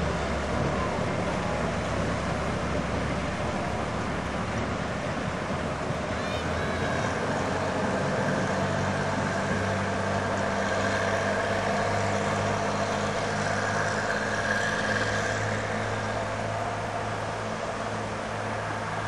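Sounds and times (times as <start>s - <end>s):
locomotive engine running: 0.0s - 19.0s.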